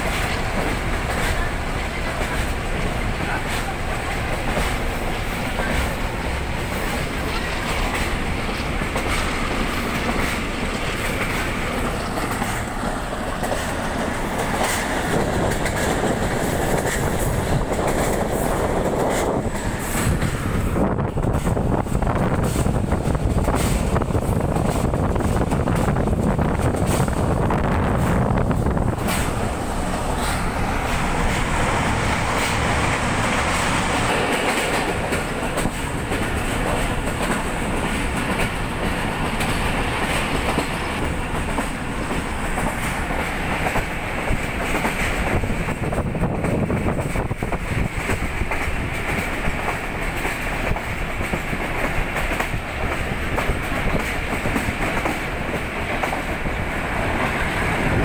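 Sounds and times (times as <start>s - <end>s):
rail joint clicks: 0.0s - 58.0s
train wheels rumbling on rails: 0.0s - 58.0s.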